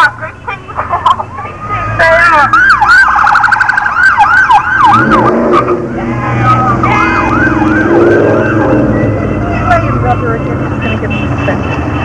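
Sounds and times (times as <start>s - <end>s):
police siren yelping: 0.0s - 10.6s.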